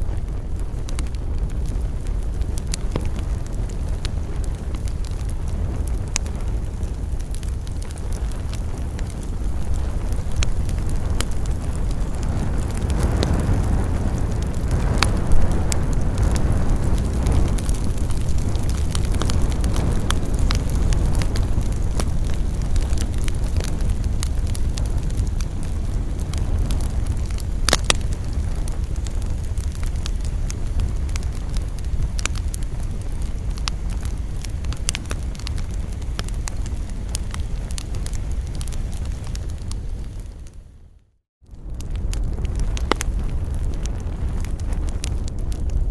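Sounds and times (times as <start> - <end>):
crackles and pops of burning wood: 0.0 - 40.9, 41.5 - 45.9
low rumble: 0.0 - 45.9
wood campfire burning: 0.0 - 45.9.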